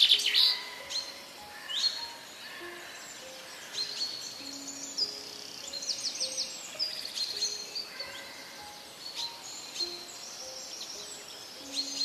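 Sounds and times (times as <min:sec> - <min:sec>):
birds chirping: 0:00.0 - 0:12.0
soft background music: 0:00.0 - 0:12.0.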